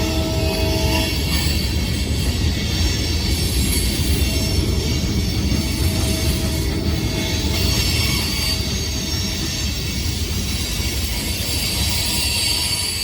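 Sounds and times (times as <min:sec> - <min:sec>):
high-pitched wheel squeal: 0:00.0 - 0:13.0
train wheels rumbling on rail: 0:00.0 - 0:13.0.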